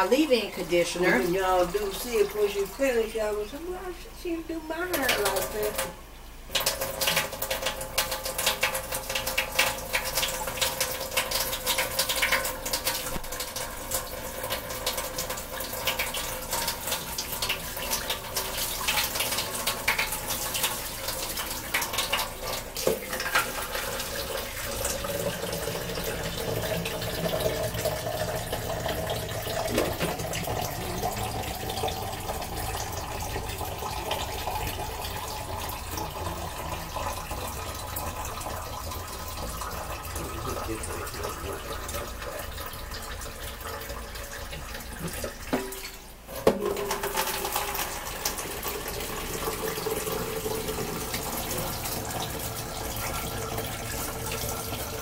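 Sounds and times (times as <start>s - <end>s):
water splashing into sink: 4.8s - 55.0s.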